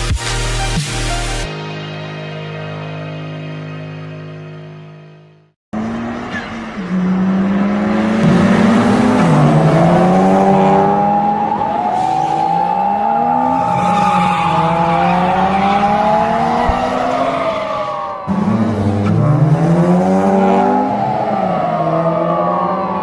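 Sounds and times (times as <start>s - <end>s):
car engine: 3.3s - 23.0s.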